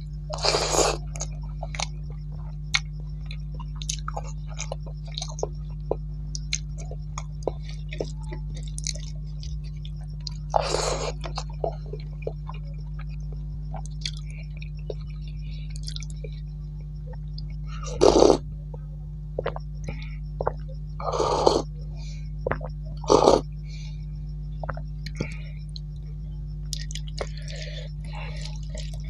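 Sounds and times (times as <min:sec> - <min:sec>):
low hum: 0:00.0 - 0:29.0
chewing and mouth sounds: 0:00.3 - 0:18.8, 0:19.4 - 0:21.7, 0:22.4 - 0:23.5, 0:24.6 - 0:26.0, 0:26.6 - 0:29.0.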